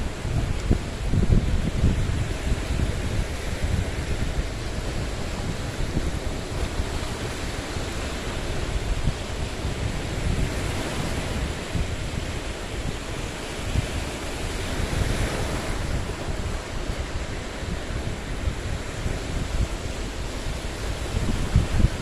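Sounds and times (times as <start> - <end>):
waves breaking among rocks: 0.0 - 22.0
wind on microphone: 0.0 - 22.0.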